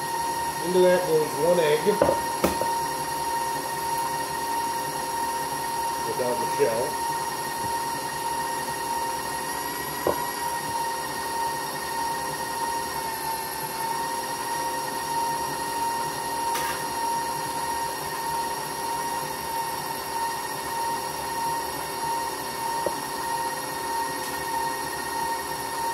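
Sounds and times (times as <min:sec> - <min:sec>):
stand mixer motor whine: 0:00.0 - 0:25.9.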